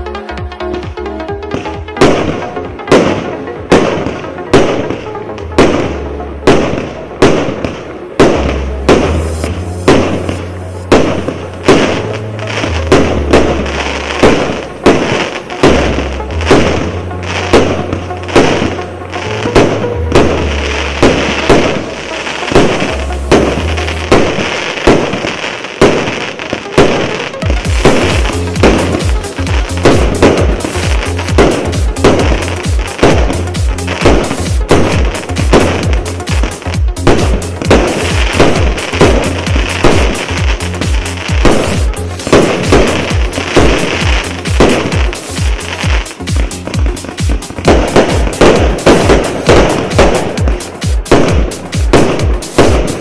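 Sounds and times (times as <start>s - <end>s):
electronic music: 0.0s - 53.0s
fireworks bangs: 1.0s - 53.0s.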